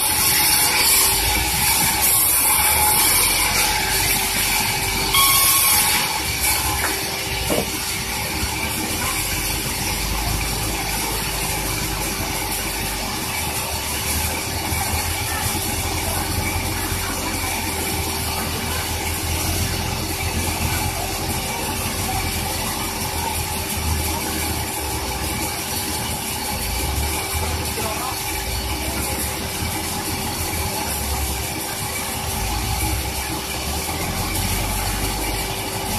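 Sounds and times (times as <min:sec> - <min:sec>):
sawmill machinery hum: 0:00.0 - 0:35.9.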